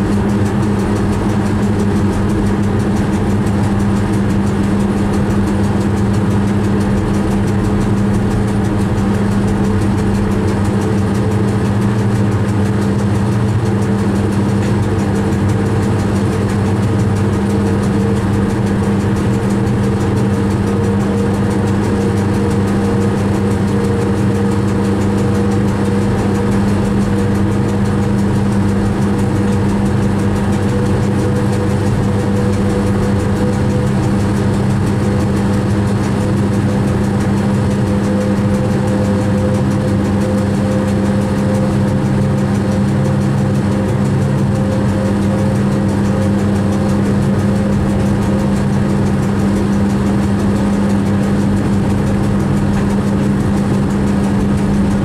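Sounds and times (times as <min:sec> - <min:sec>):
low hum of traction equipment: 0:00.0 - 0:55.0
train rolling noise: 0:00.0 - 0:55.0.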